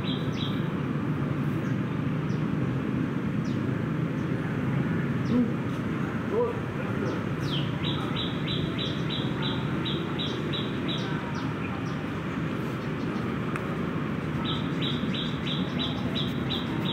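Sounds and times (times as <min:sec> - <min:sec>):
low background noise: 0:00.0 - 0:16.9.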